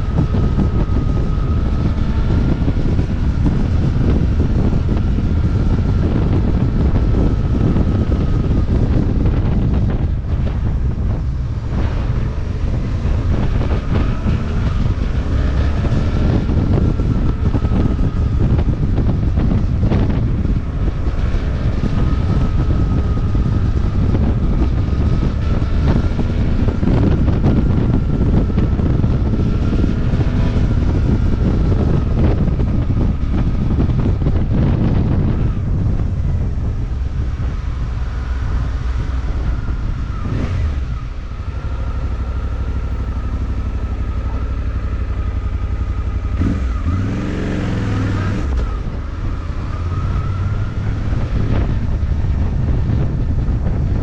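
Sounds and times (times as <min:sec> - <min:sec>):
motorcycle engine and road rumble: 0:00.0 - 0:54.0
wind buffeting microphone: 0:00.0 - 0:54.0.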